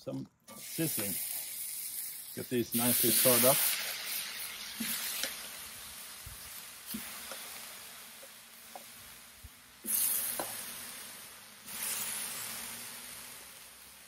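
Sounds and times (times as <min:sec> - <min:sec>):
fruit sizzling on griddle pan: 0:00.5 - 0:14.0.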